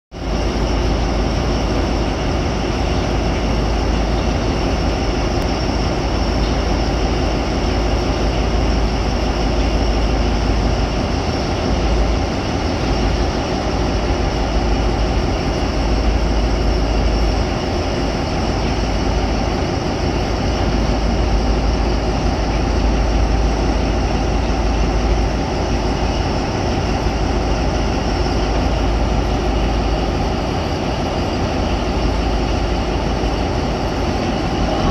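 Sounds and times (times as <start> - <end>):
dump truck diesel engine rumble: 0.6 - 34.9.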